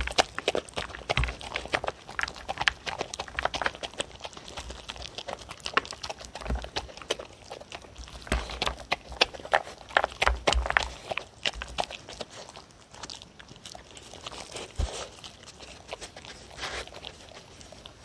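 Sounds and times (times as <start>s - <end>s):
dogs chewing and licking: 0.0s - 18.0s.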